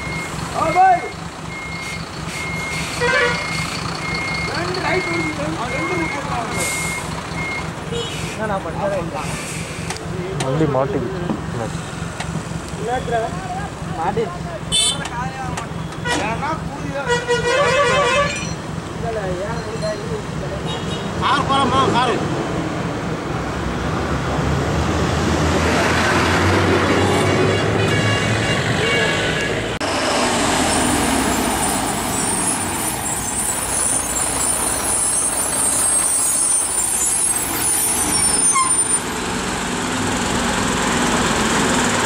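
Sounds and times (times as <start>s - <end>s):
truck diesel engines running: 0.0s - 42.0s.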